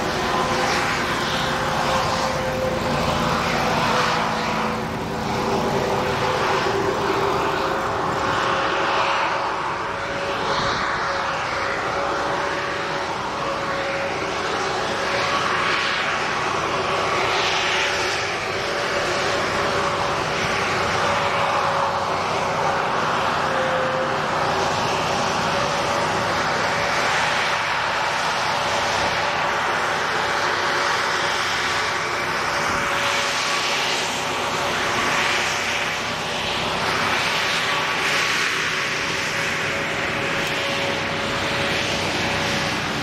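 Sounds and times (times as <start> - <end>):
hovercraft engine drone: 0.0 - 43.0
rushing noise: 0.0 - 43.0.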